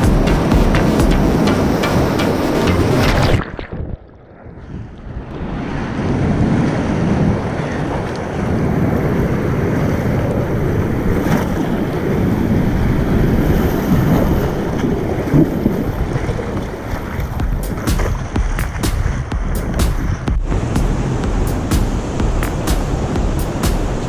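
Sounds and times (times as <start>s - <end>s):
churning splashing river water: 0.0s - 4.4s, 6.1s - 24.0s
muffled underwater water: 0.0s - 24.0s
wind buffeting microphone: 0.0s - 24.0s.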